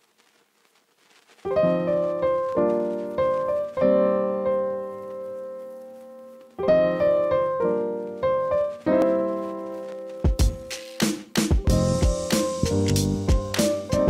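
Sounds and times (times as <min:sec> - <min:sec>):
piano chords ringing: 0:01.5 - 0:10.8, 0:11.6 - 0:14.0.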